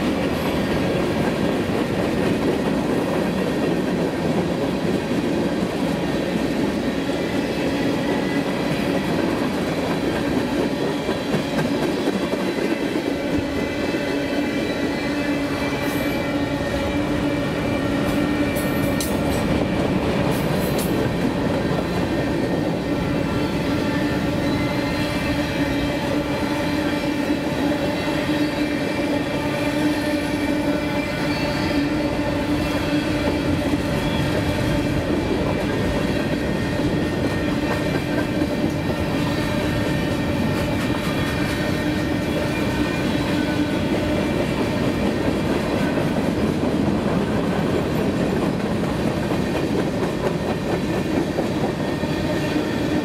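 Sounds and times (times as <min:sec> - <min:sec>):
steel wheels rumbling on rails: 0:00.0 - 0:53.0.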